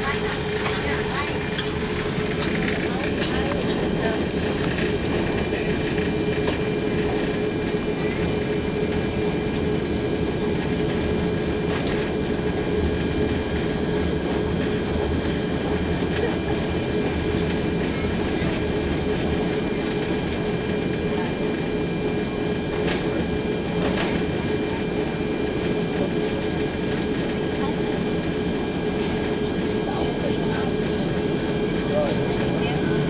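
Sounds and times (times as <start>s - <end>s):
jet engines humming in cabin: 0.0s - 33.0s.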